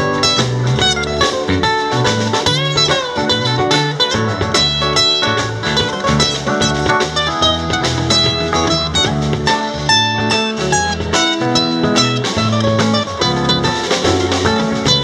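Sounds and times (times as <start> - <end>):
live band playing: 0.0 - 15.0
steady drum beat: 0.0 - 15.0
walking bass line: 0.0 - 15.0.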